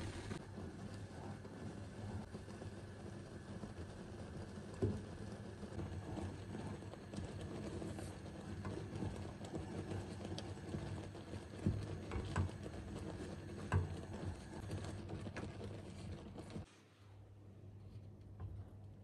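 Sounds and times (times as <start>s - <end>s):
wooden spoon stirring porridge: 0.0s - 16.8s
steady low hum: 0.0s - 19.0s.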